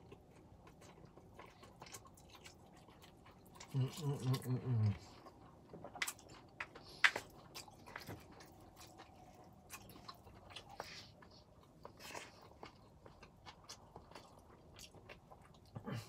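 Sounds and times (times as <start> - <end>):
chewing and lip smacking: 0.0 - 16.0.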